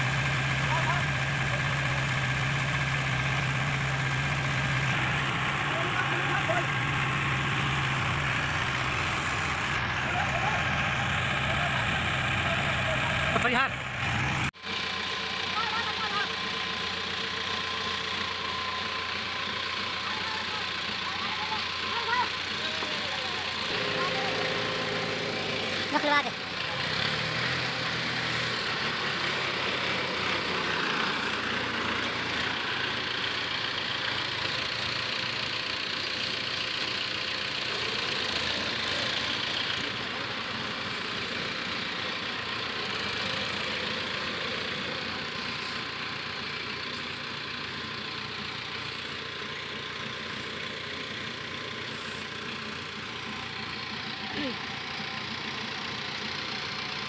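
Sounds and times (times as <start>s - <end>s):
tractor diesel engine straining: 0.0s - 57.0s.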